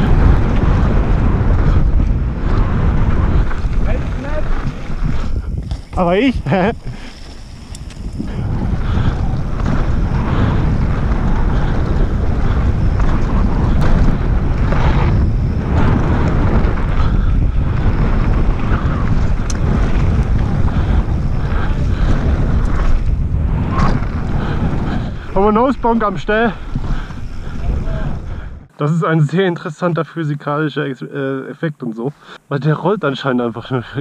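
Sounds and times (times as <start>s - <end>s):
wind rushing over microphone: 0.0s - 28.8s
tyres rumbling on dirt trail: 0.0s - 31.4s.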